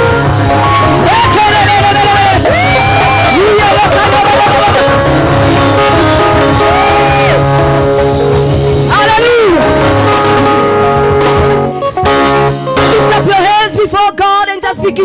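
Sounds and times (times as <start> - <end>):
guitar: 0.0 - 15.0
keyboard chords: 0.0 - 15.0.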